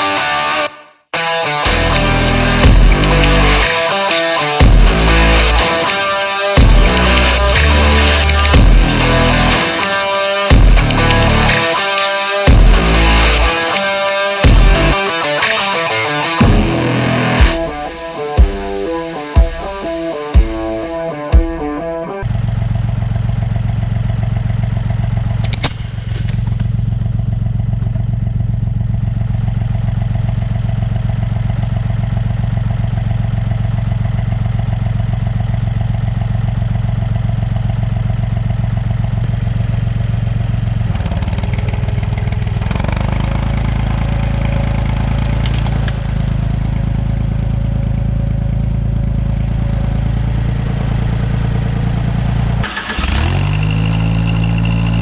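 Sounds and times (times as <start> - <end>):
wood chipper engine running: 1.2 - 19.2, 22.2 - 55.0.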